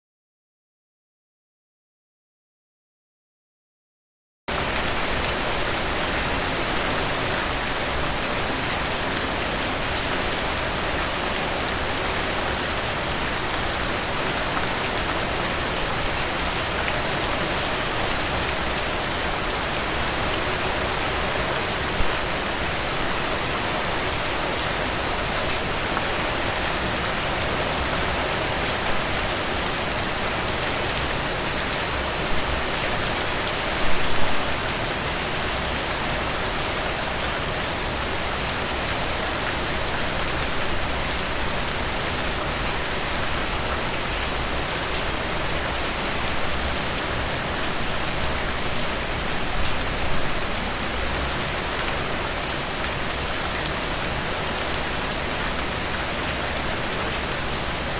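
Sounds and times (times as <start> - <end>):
heavy rain falling: 4.5 - 57.9.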